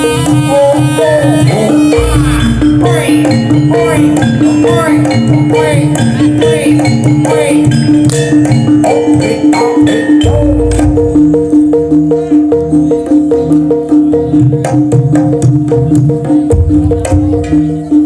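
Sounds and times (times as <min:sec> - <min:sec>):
drums: 0:00.0 - 0:18.0
wavering melody: 0:00.0 - 0:18.0.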